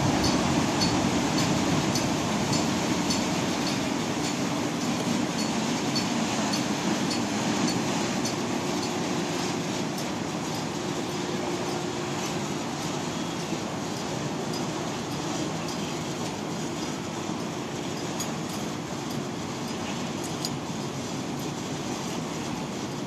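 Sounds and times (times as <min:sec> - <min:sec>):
barge hull rumbling down slipway: 0:00.0 - 0:23.0.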